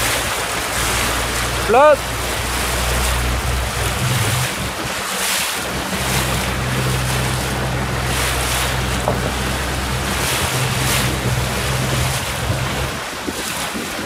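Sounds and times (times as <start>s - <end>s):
boat motor hum: 0.0s - 14.0s
water rushing and splashing: 0.0s - 14.0s
wind buffeting the microphone: 0.0s - 14.0s.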